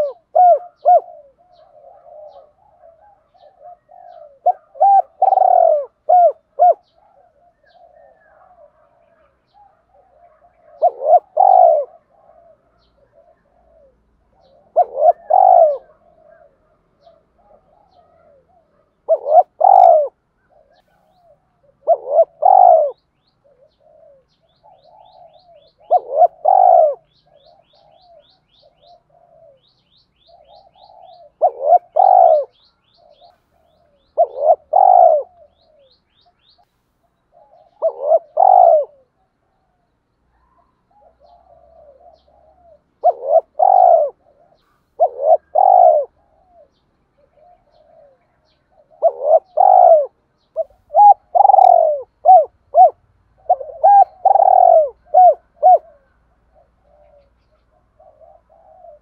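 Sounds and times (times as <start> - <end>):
dove cooing: 0.0 - 36.6, 37.2 - 59.0.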